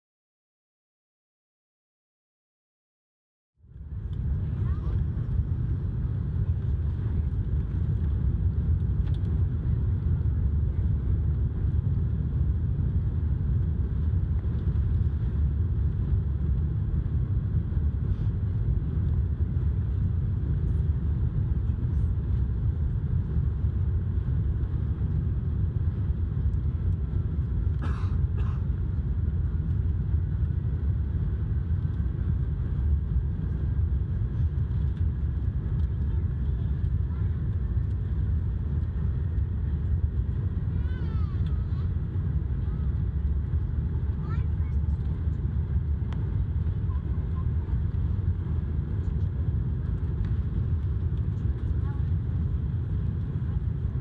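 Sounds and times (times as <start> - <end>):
low rumble of jet engines: 3.6 - 54.0.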